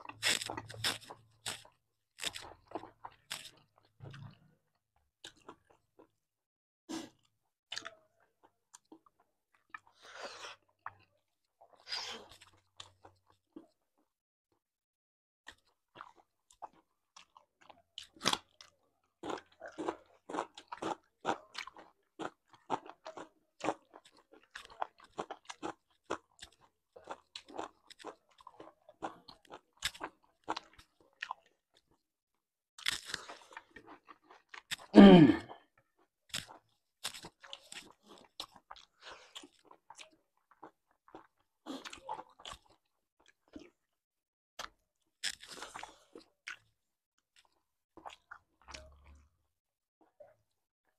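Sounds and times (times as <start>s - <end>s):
chewing and crunching food: 0.0s - 6.3s, 6.9s - 14.2s, 15.4s - 44.0s, 44.6s - 50.9s.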